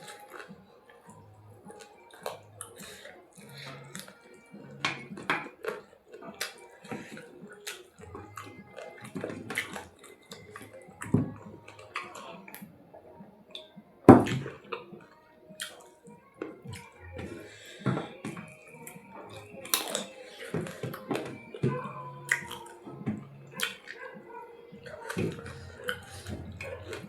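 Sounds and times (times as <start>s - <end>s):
chewing: 0.0s - 27.0s.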